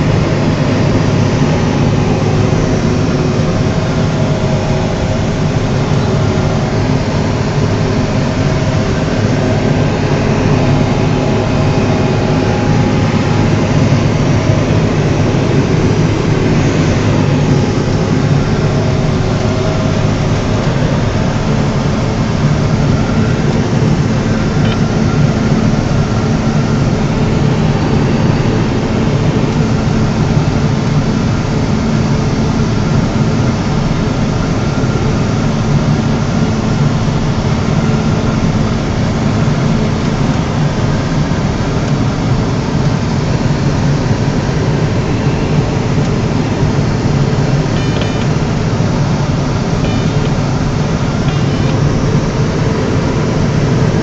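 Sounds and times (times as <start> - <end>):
harvester engine droning: 0.0 - 54.0.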